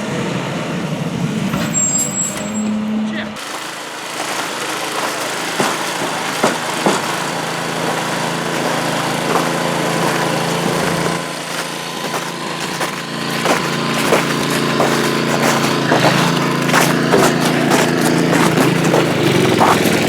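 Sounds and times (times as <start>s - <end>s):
engine running steadily: 3.3s - 20.0s.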